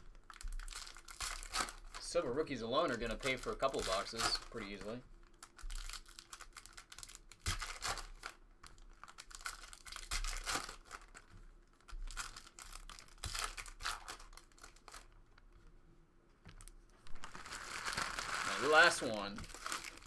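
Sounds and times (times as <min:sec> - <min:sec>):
foil wrappers tearing and crinkling: 0:00.0 - 0:15.2, 0:16.6 - 0:20.0.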